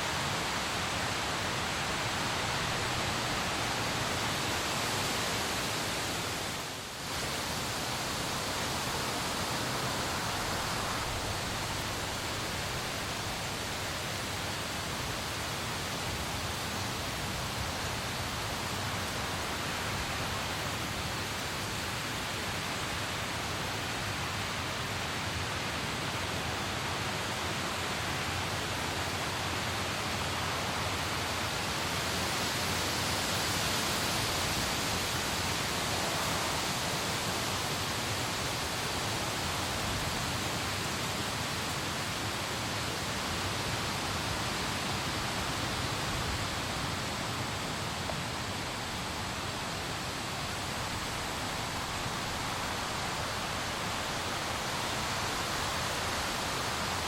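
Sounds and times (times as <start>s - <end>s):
heavy rain falling: 0.0s - 24.8s, 32.6s - 57.0s.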